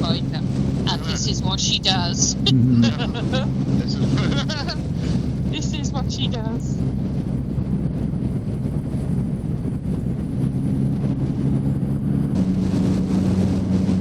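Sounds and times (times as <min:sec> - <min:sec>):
motorcycle engine running: 0:00.0 - 0:14.0
wind on microphone: 0:00.0 - 0:14.0.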